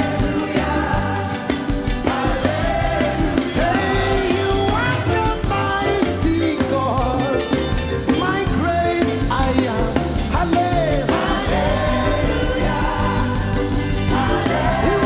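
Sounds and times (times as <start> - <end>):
band with bass and drums: 0.0 - 15.0
person singing gospel melody: 0.0 - 15.0.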